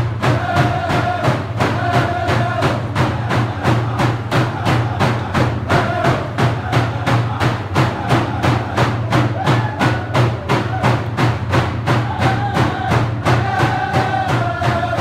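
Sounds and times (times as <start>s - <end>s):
frame hand drums beating: 0.0s - 15.0s
singers chanting held notes: 0.0s - 15.0s.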